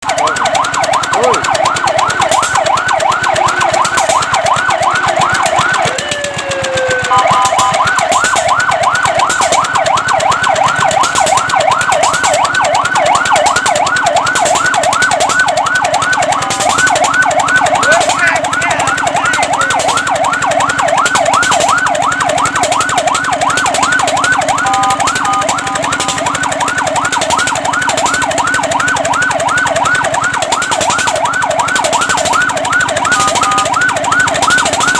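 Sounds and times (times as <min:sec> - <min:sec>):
fire truck siren yelping: 0:00.0 - 0:34.9
steady siren tones: 0:00.0 - 0:34.9.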